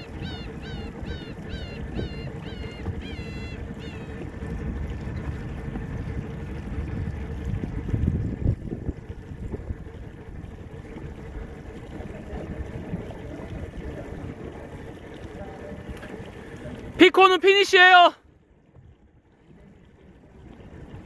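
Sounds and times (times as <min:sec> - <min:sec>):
wind buffeting microphone: 0:00.0 - 0:17.0
motorboat engine running: 0:00.0 - 0:21.0
water noise: 0:00.0 - 0:21.0.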